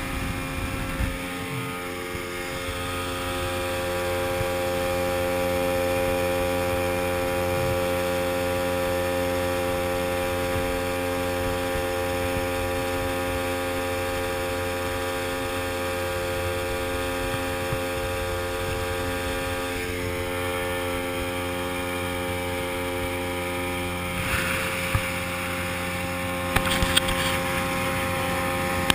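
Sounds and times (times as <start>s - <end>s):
outboard motor whining: 0.0s - 28.9s.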